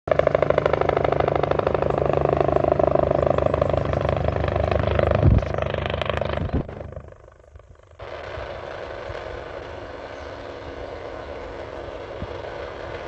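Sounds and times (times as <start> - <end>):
helicopter engine whine: 0.1 - 13.0
helicopter rotor beating: 0.1 - 13.0.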